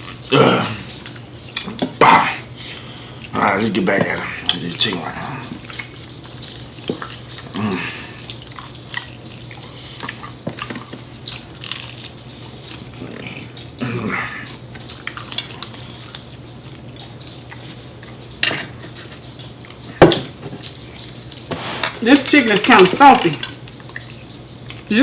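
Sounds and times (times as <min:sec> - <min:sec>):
faint steady hum: 0:00.0 - 0:25.0
people chewing food: 0:00.0 - 0:25.0.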